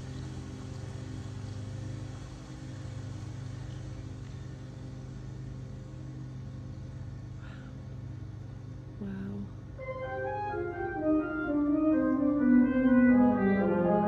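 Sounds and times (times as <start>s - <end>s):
synthesizer drone: 0.0s - 14.0s.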